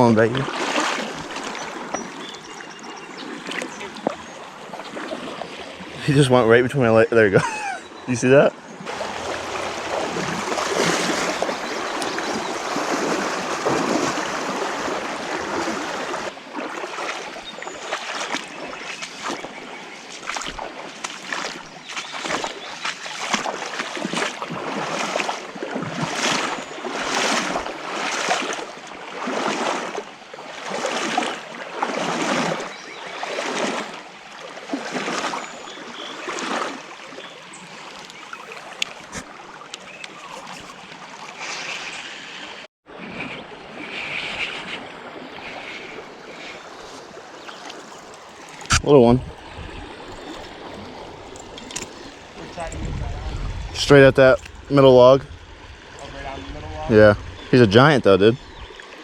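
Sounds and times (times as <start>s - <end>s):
water sloshing and splashing: 0.0s - 6.0s, 8.7s - 56.6s
creek water rushing: 0.0s - 59.0s.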